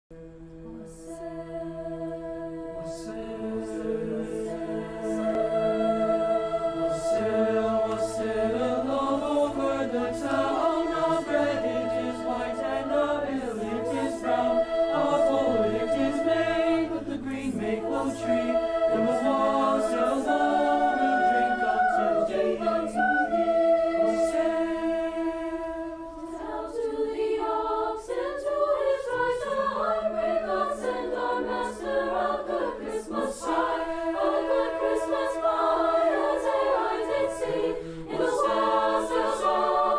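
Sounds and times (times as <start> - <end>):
choir singing in harmony: 0.2 - 39.9.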